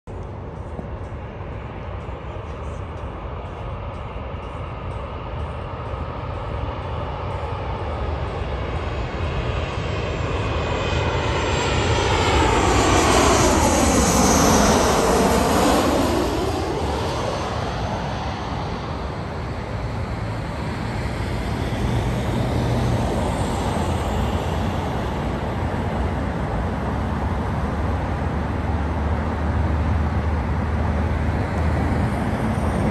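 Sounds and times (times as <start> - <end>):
jet plane passing overhead: 0.1 - 32.9.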